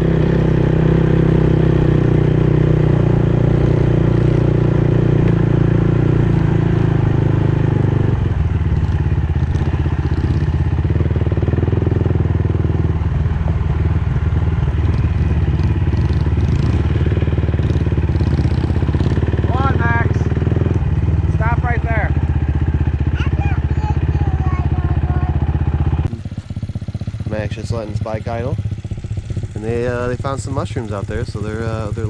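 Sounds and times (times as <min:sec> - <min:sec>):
vehicle engine idling: 0:00.0 - 0:32.0.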